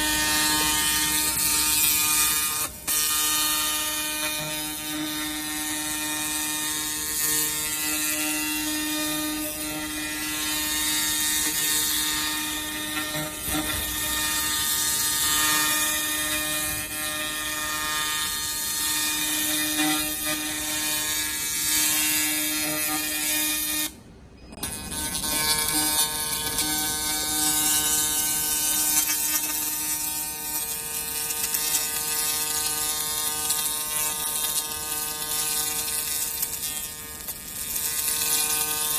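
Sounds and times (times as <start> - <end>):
laser head buzzing: 0.0 - 38.9.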